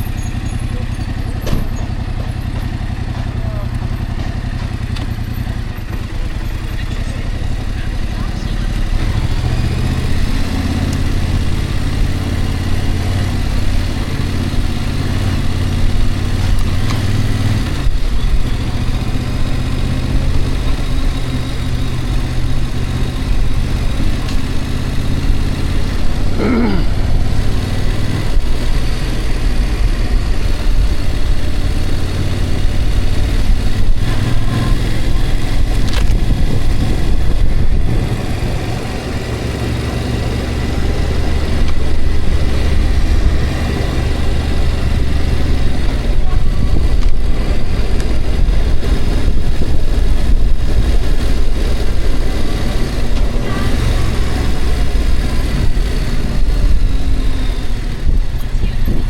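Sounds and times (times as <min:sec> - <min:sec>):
low engine drone: 0:00.0 - 0:59.0
road and wind noise: 0:00.0 - 0:59.0.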